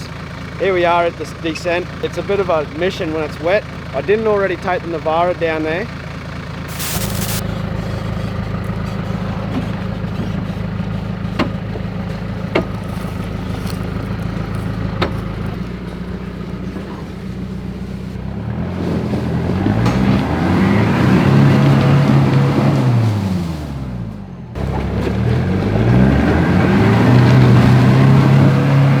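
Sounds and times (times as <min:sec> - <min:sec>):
vehicle engine running and revving: 0:05.2 - 0:29.0.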